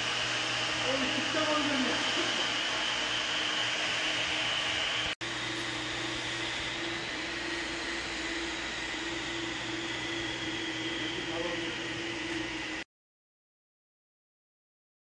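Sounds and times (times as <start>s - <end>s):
machinery hum and whir: 0.0s - 12.8s.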